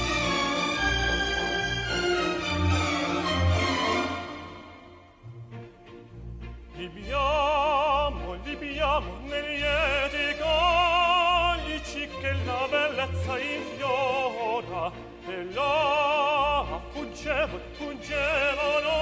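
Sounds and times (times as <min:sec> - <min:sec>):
operatic singing: 0:00.0 - 0:19.0
orchestral accompaniment: 0:00.0 - 0:19.0.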